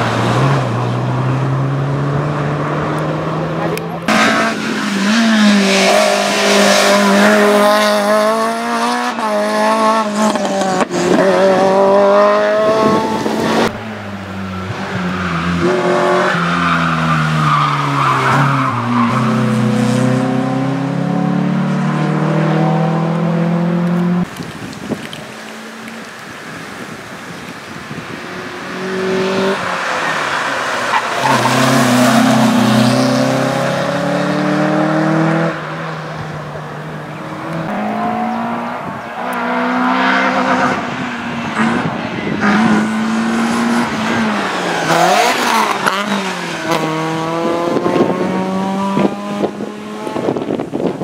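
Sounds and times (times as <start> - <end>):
car engines revving: 0.0 - 51.0.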